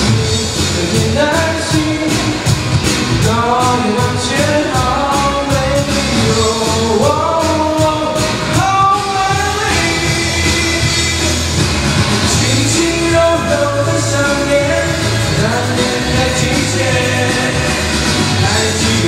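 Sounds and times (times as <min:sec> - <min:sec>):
man singing into a microphone: 0:00.0 - 0:11.6, 0:12.3 - 0:19.0
pop accompaniment with drum beat: 0:00.0 - 0:19.0.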